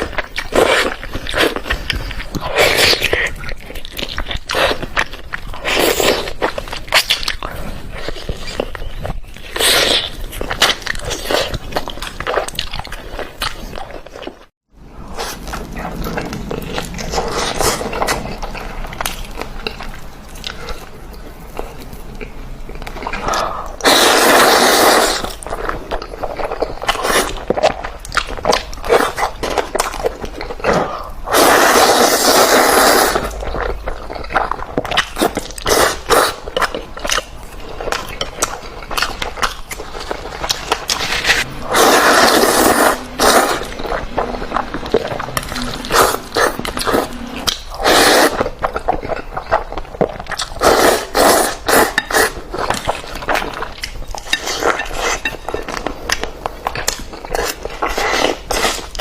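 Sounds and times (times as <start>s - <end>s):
wet chewing of noodles: 0.0s - 59.0s.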